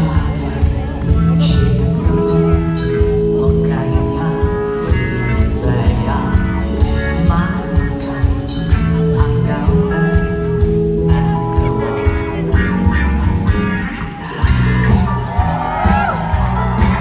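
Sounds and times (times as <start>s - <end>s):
man singing into a microphone: 0.0s - 15.4s
live pop band playing: 0.0s - 17.0s.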